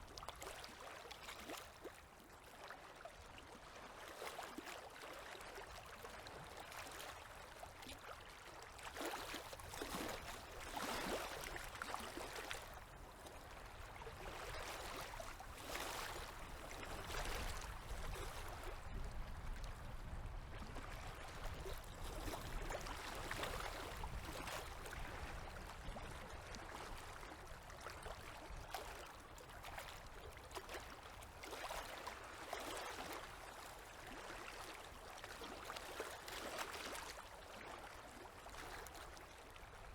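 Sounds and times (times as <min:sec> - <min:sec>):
waves lapping at shore: 0:00.0 - 0:39.9.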